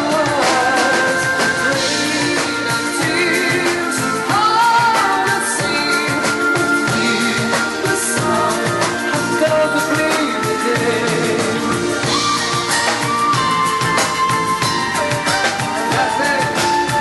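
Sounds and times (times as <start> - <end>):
live dance-band music: 0.0 - 17.0
person singing: 0.0 - 17.0.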